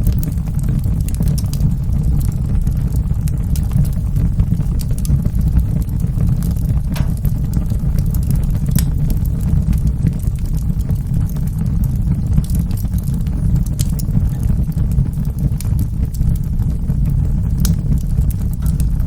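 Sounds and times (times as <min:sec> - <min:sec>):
fire flames rumbling: 0:00.0 - 0:19.0
wood fire crackling and popping: 0:00.0 - 0:19.0.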